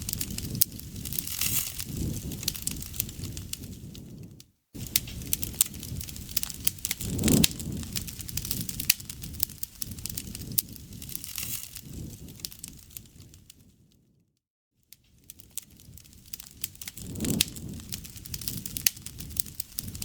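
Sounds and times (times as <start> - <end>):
campfire crackling and popping: 0.0 - 14.0, 14.9 - 20.0
low whoosh of fire: 0.0 - 14.2, 14.9 - 20.0.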